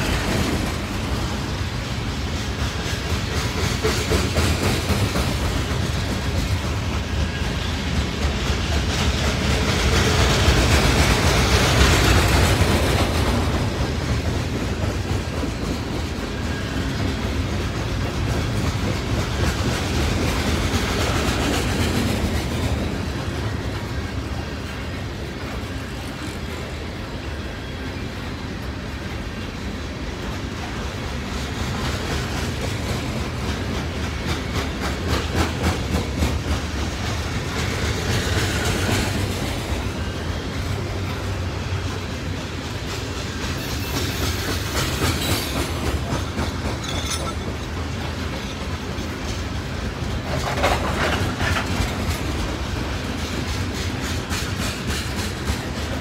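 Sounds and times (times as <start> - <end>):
wheels clicking over rail joints: 0.0 - 27.1, 30.1 - 56.0
freight train rumble: 0.0 - 56.0.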